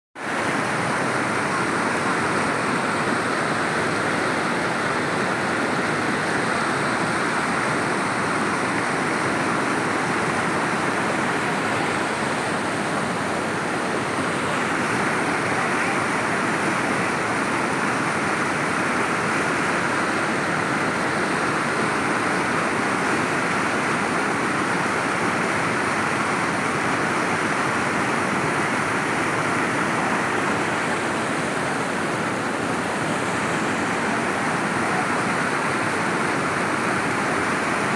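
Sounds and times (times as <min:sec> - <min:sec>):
flood water rushing: 0:00.2 - 0:37.9.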